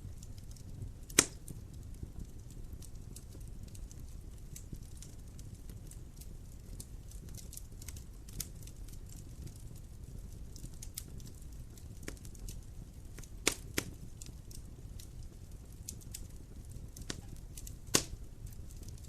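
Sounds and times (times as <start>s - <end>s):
wood fire crackling and snapping: 0.0s - 19.0s.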